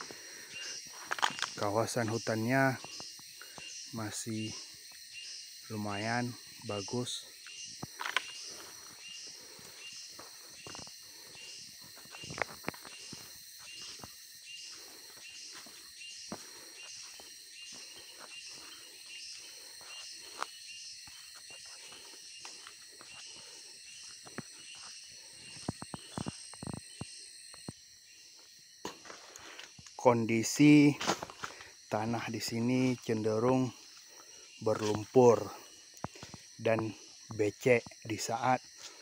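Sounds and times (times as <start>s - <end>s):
insect chorus pulsing: 0.0s - 39.0s.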